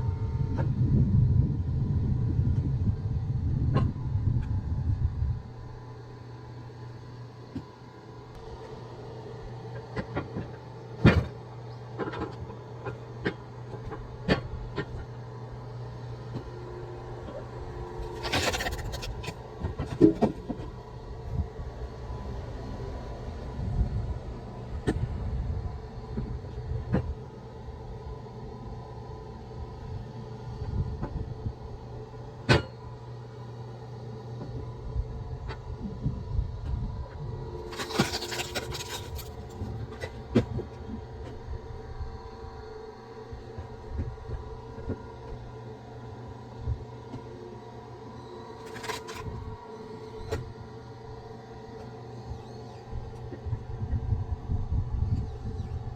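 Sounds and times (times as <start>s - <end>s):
steady low motor hum: 0.0s - 55.9s.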